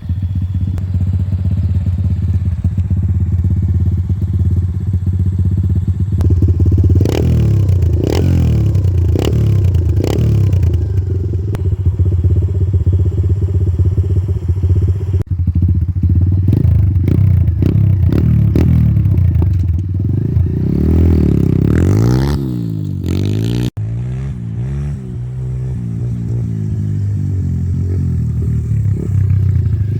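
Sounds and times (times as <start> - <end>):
motorbike engine revving: 0.0 - 29.9.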